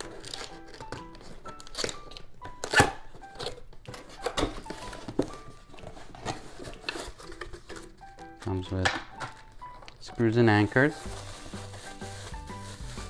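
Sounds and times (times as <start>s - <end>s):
light background music: 0.0s - 13.0s
packaging rustling: 0.0s - 13.0s.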